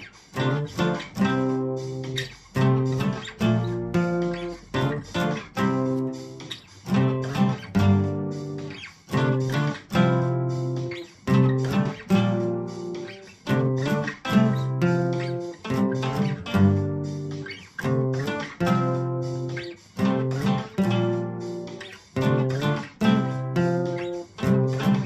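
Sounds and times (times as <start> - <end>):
guitar chords strummed: 0.0 - 25.0.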